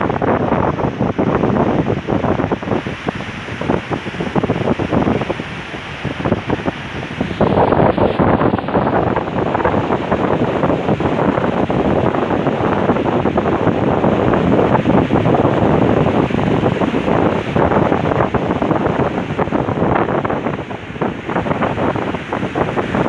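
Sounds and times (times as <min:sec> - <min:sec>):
sea waves on shore: 0:00.0 - 0:23.0
wind buffeting microphone: 0:00.0 - 0:23.0.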